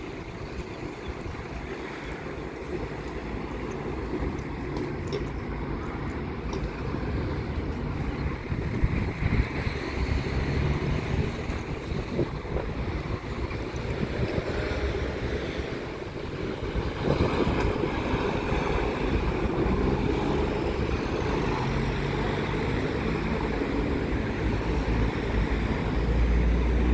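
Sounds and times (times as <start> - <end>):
wind rumbling on microphone: 0.0 - 26.9.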